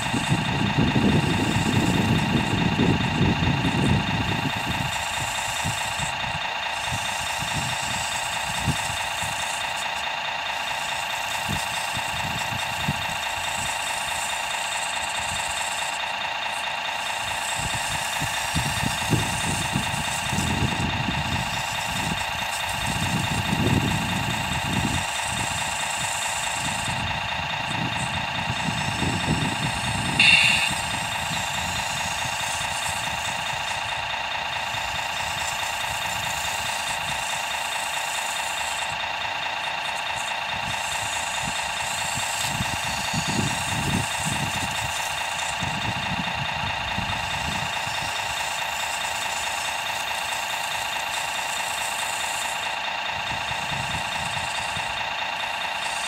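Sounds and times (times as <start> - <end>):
model engine running: 0.0 - 56.0.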